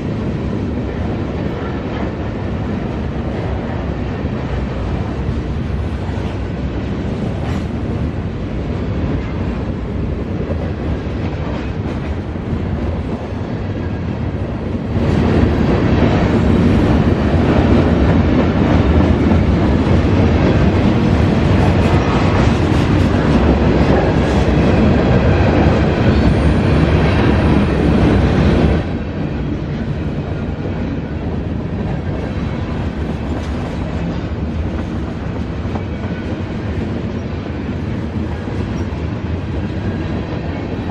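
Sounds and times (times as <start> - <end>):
freight train cars rolling: 0.0 - 40.9.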